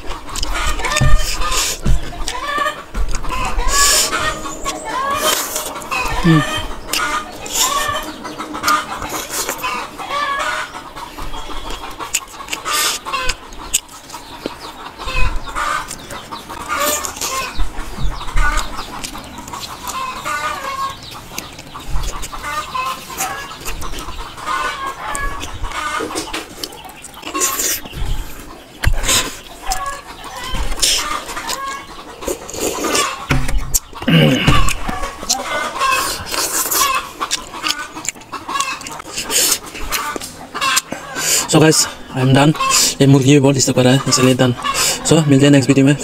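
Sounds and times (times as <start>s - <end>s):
wet chewing and lip smacks: 0.0s - 9.9s, 10.6s - 41.5s
chickens clucking: 0.0s - 46.0s.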